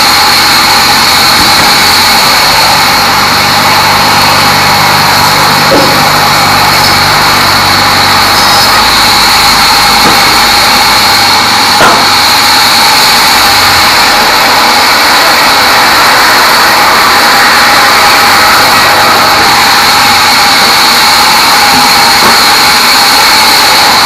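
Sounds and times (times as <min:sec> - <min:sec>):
band saw cutting log: 0:00.0 - 0:24.0
high-pitched saw whine: 0:00.0 - 0:24.0.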